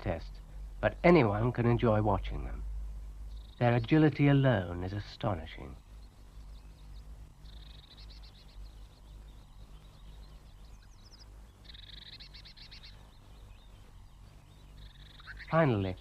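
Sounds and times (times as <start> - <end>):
low steady hum: 0.0 - 16.0
small birds trilling: 0.0 - 16.0.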